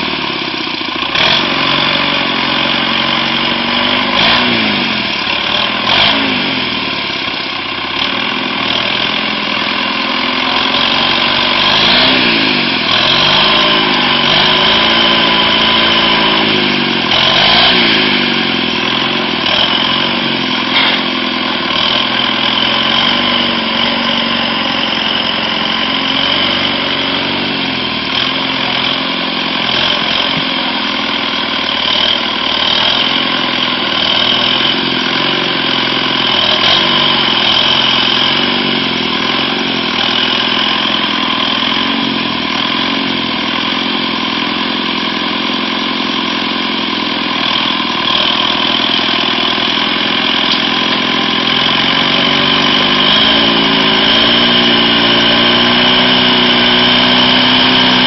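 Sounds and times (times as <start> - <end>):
tractor engine revving: 0.0 - 58.0.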